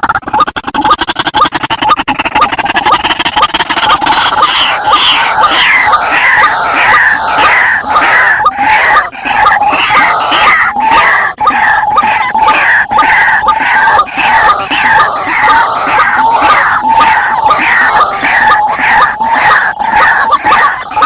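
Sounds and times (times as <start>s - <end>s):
waterhen calling: 0.0s - 21.0s.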